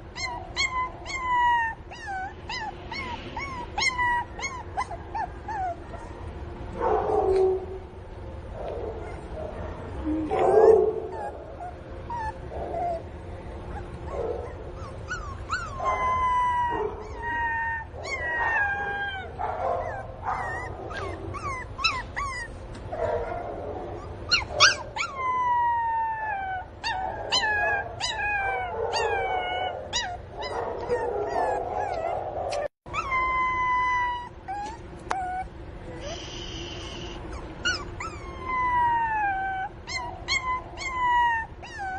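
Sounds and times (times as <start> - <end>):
puppy whimpering: 0.0 - 6.3, 9.0 - 23.4, 24.0 - 41.9
puppy whining and yelping: 0.0 - 6.5, 9.0 - 41.9.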